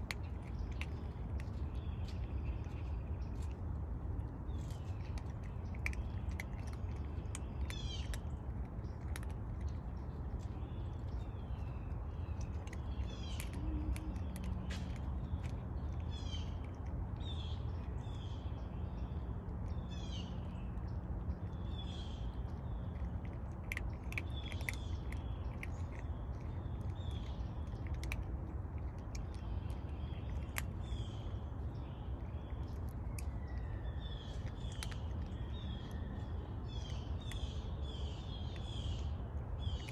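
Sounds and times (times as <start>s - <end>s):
birds chirping: 0.0s - 39.9s
low background rumble: 0.0s - 39.9s.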